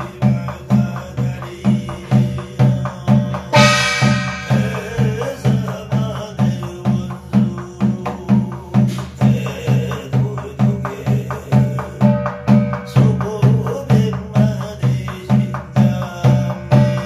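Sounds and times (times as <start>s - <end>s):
barrel drum beating: 0.0s - 17.0s
man chanting: 0.0s - 17.0s.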